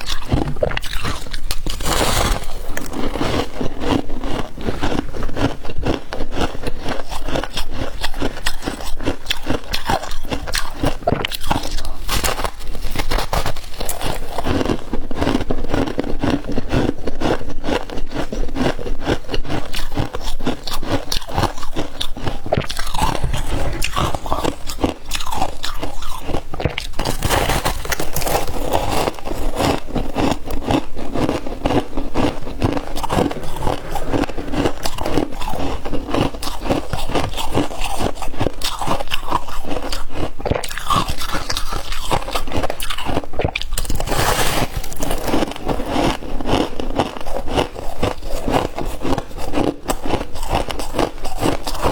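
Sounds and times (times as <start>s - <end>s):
ice being chewed crunching: 0.0s - 51.9s.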